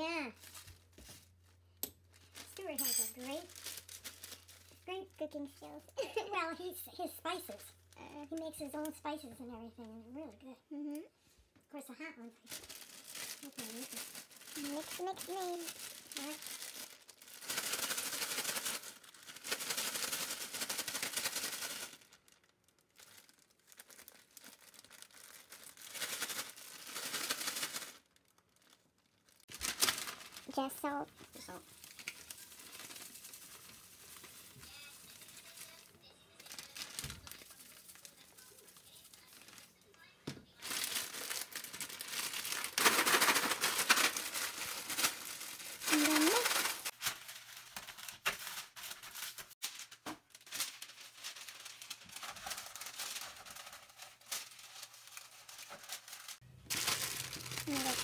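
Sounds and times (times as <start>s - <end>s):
plastic bag crinkling: 0.2s - 5.5s, 12.4s - 58.0s.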